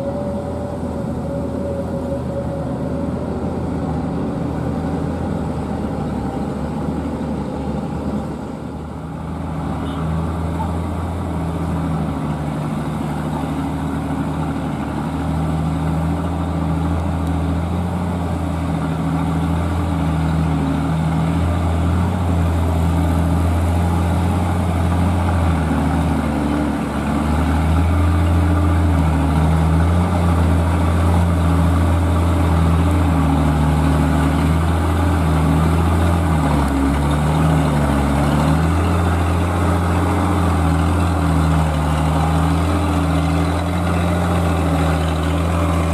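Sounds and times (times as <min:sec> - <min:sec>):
dump truck engine drone: 0:00.0 - 0:45.9.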